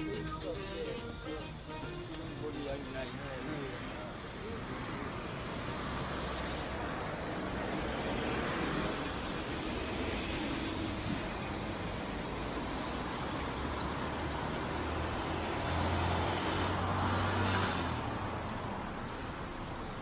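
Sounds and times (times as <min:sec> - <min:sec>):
street traffic noise: 0:00.0 - 0:20.0
vehicle engine humming close by: 0:02.1 - 0:20.0.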